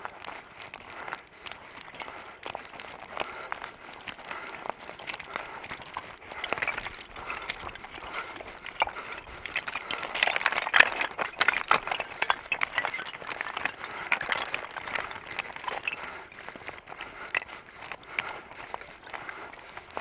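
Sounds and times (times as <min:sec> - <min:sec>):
tyre clattering over loose stones: 0:00.0 - 0:20.0.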